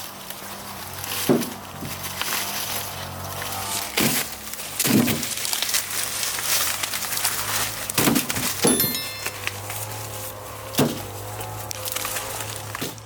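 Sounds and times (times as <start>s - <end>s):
dry husks rustling and crackling: 0.0s - 8.6s, 9.5s - 13.0s.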